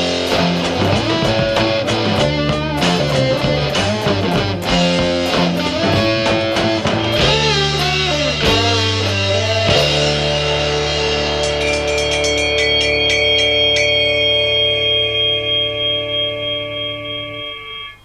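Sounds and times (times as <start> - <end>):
bass guitar: 0.0 - 18.0
drums with steady beat: 0.0 - 18.0
electric guitar: 0.0 - 18.0.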